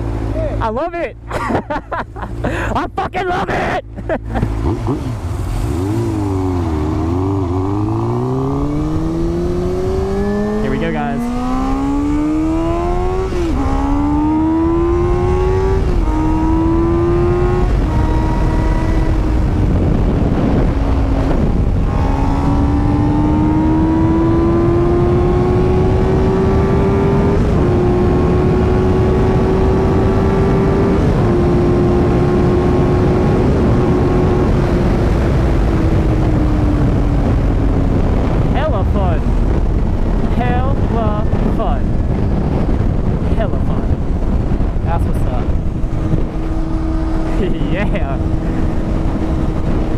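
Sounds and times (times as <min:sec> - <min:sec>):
motorcycle engine accelerating: 0:03.9 - 0:49.9
wind rushing: 0:04.5 - 0:29.5, 0:30.6 - 0:49.9.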